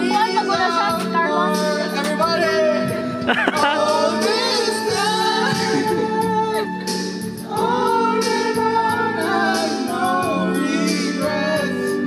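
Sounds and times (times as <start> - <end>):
music backing track: 0.0 - 12.0
man singing into microphone: 0.1 - 6.9, 7.5 - 12.0.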